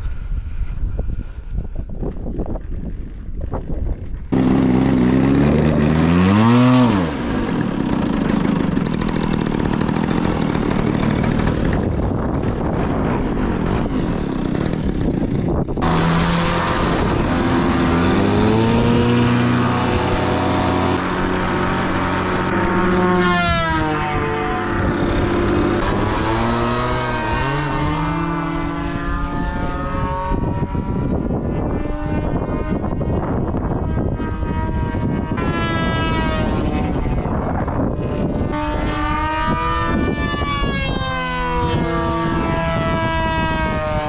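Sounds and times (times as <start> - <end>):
model airplane engine revving: 3.8 - 33.0, 33.6 - 44.0.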